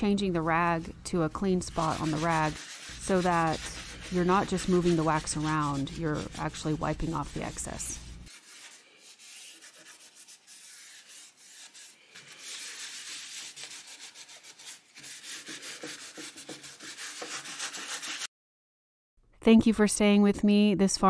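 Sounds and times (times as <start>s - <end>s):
cloth rag rubbing wooden tabletop: 0.1s - 18.3s.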